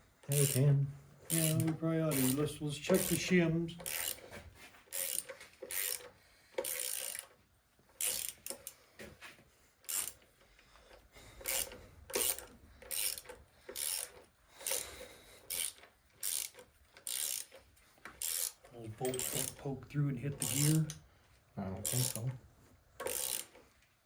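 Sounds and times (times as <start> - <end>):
hand ratchet clicking: 0.2 - 0.7, 1.3 - 8.9, 9.8 - 19.7, 20.3 - 21.0, 21.8 - 22.4, 23.0 - 23.8.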